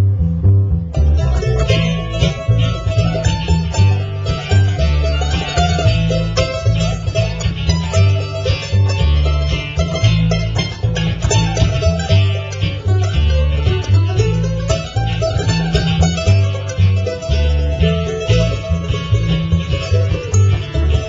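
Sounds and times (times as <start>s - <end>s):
mandolin picking: 0.0s - 21.0s
upright bass plucking: 0.0s - 21.0s
acoustic guitar: 0.8s - 21.0s.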